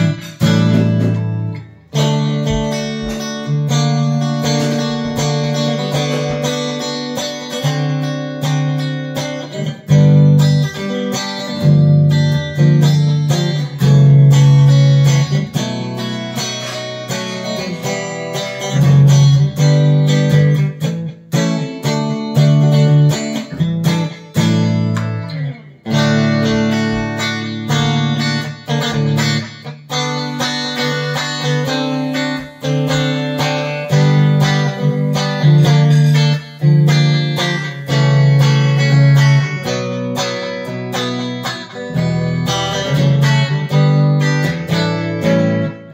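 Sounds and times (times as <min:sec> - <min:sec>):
electric guitar strummed and picked: 0:00.0 - 0:45.9.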